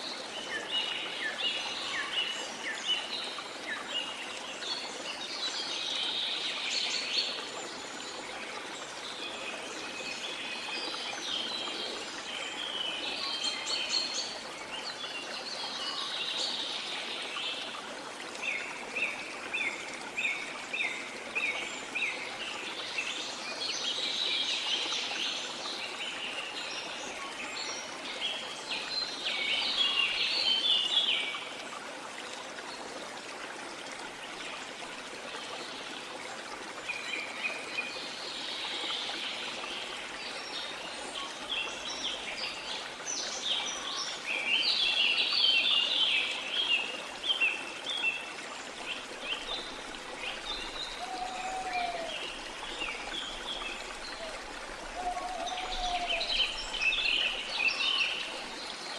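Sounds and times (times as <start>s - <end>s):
songbirds chirping and twittering: 0.0s - 58.9s.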